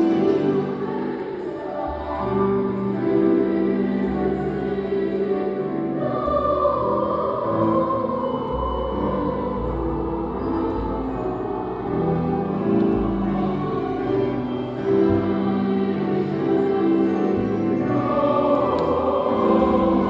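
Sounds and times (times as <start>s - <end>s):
choir singing held chords: 0.0s - 20.0s.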